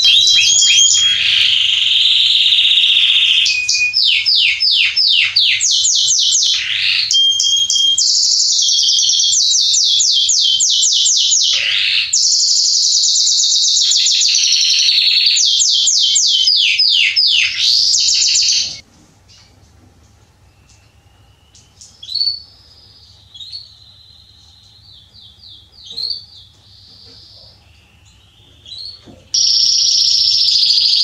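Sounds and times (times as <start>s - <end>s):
canary singing with buzzy trills: 0.0s - 18.8s, 20.4s - 31.0s.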